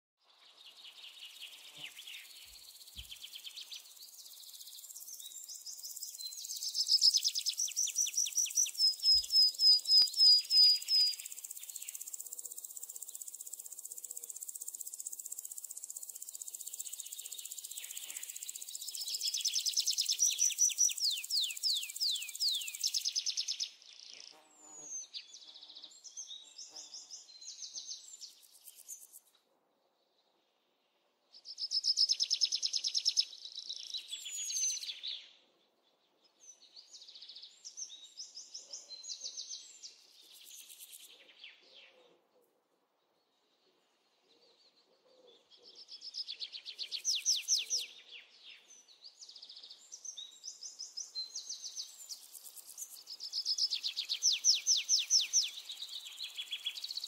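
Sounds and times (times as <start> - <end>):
small birds singing trills: 0.2 - 29.4, 31.2 - 42.2, 43.0 - 57.0.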